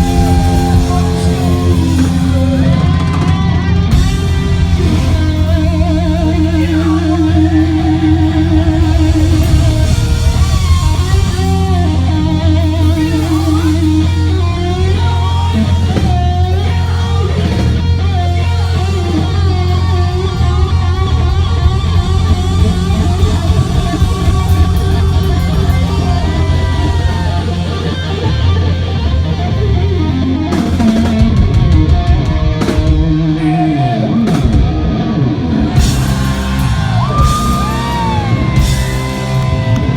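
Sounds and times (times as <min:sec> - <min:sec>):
bass guitar: 0:00.0 - 0:39.9
drum kit: 0:00.0 - 0:39.9
electric guitar bending notes: 0:00.0 - 0:39.9.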